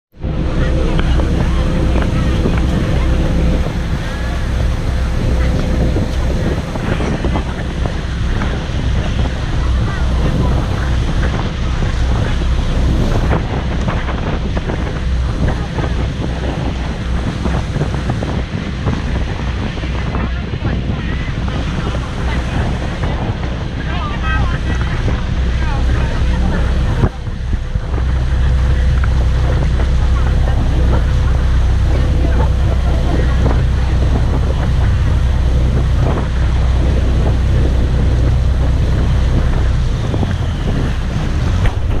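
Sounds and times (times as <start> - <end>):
boat engine rumble: 0.0 - 42.0
wake splashing along hull: 0.1 - 42.0
wind buffeting microphone: 0.1 - 42.0.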